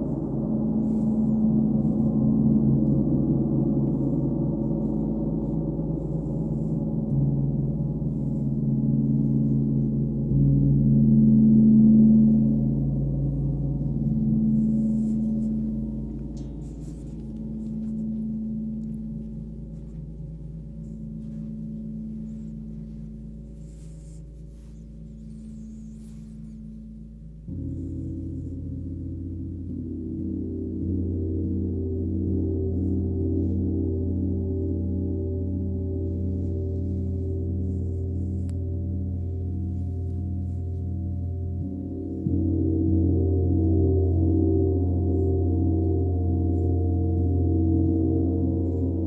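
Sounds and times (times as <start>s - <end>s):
deep gong drone: 0.0s - 49.0s.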